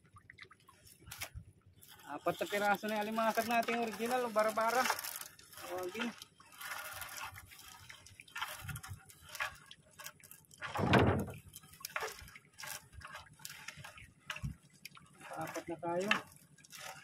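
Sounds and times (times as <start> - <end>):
water dripping and splashing off net: 0.0 - 17.0.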